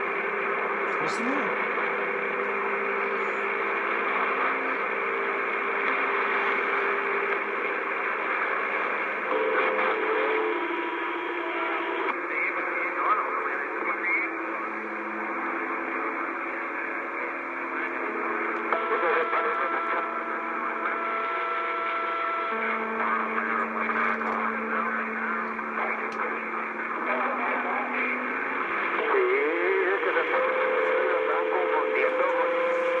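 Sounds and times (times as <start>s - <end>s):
radio static hiss: 0.0s - 33.0s
steady radio tones: 0.0s - 33.0s.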